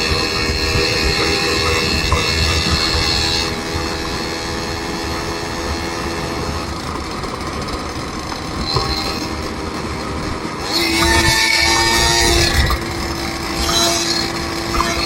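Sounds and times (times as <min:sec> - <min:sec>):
road noise: 0:00.0 - 0:15.0
vehicle engine running: 0:00.0 - 0:15.0.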